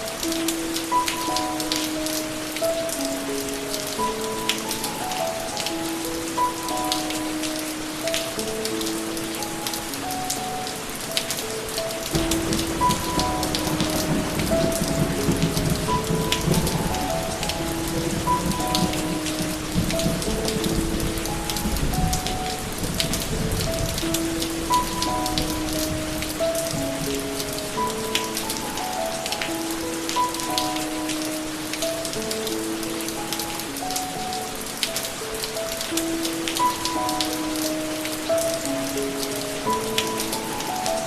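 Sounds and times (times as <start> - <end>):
slow melody of held notes: 0.0 - 41.0
steady rain falling: 0.0 - 41.0.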